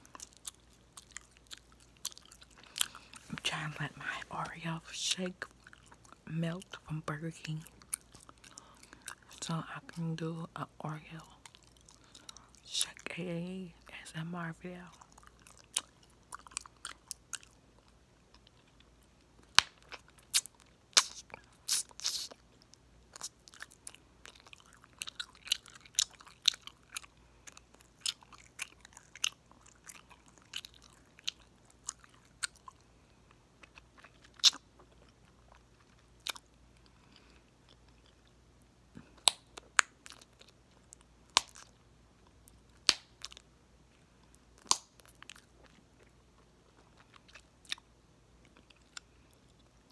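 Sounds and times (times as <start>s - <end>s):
gum chewing with pops: 0.0s - 3.9s, 5.4s - 6.8s, 7.4s - 9.8s, 14.8s - 43.5s, 44.2s - 49.9s.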